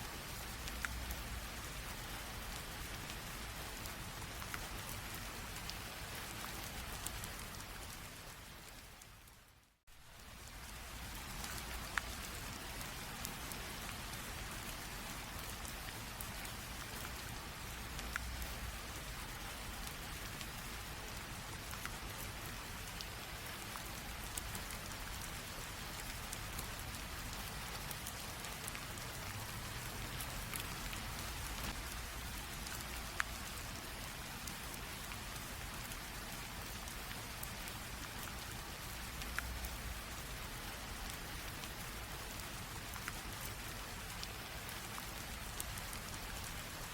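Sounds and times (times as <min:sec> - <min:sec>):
light rain hiss: 0:00.0 - 0:46.9.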